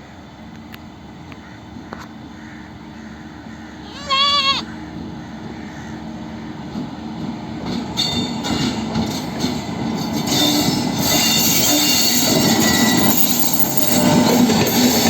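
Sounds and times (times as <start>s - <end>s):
passenger train rolling through: 0.0s - 15.0s.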